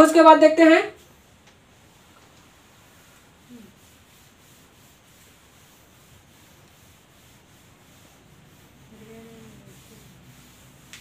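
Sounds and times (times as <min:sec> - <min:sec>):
duster rubbing on chalkboard: 0:00.0 - 0:11.0.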